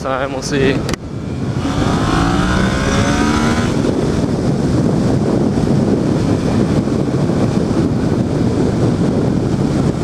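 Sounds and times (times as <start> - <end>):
wind rumbling on microphone: 0.0 - 10.0
motorcycle engine accelerating: 1.1 - 10.0.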